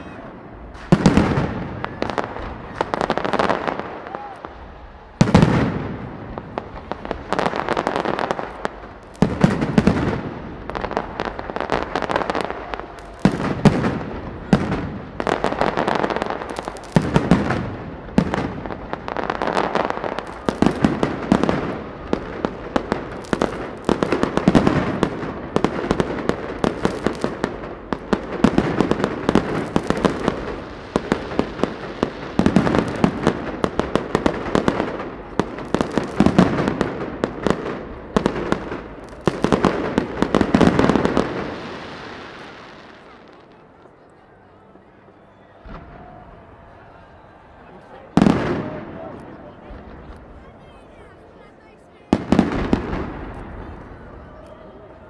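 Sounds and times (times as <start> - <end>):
fireworks bursting: 0.0 - 44.0, 45.6 - 50.5, 52.1 - 54.5.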